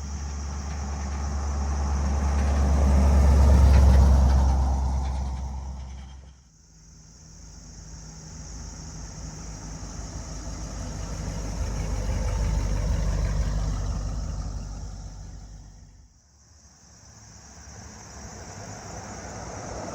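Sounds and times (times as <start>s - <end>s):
vehicle engine rumbling by: 0.0s - 19.9s.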